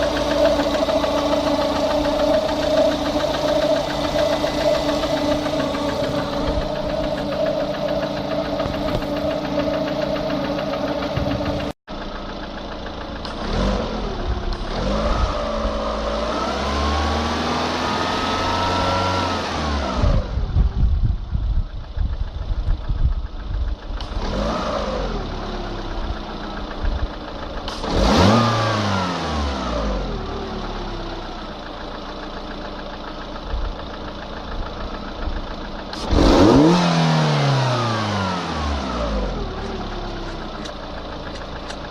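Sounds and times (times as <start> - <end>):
car engine idling and revving: 0.0 - 41.9
engine knocking: 0.0 - 41.9.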